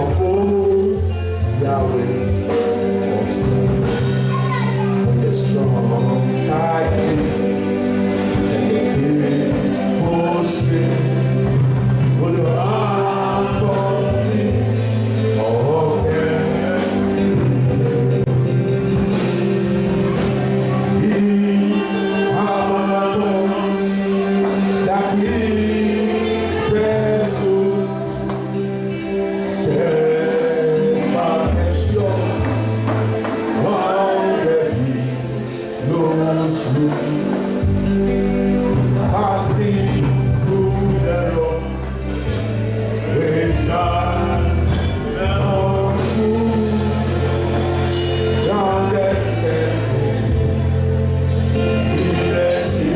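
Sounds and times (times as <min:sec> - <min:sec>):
gospel singing: 0:00.0 - 0:52.9
instrumental backing with bass line: 0:00.0 - 0:52.9.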